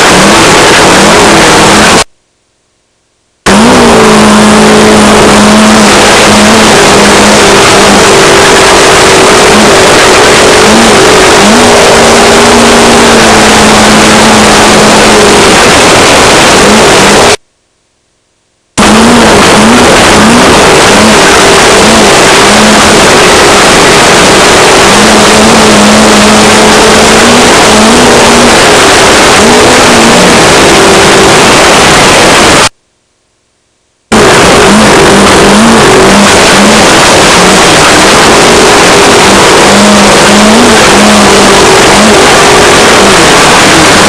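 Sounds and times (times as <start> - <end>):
race car engine revving: 0.0 - 2.1, 3.4 - 17.4, 18.8 - 32.7, 34.1 - 44.0.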